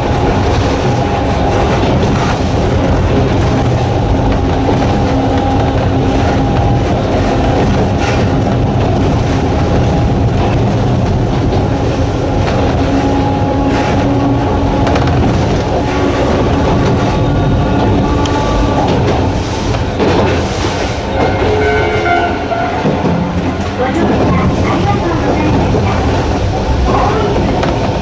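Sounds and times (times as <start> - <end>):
traction motors droning: 0.0 - 28.0
train wheels clattering over rail joints: 0.0 - 28.0.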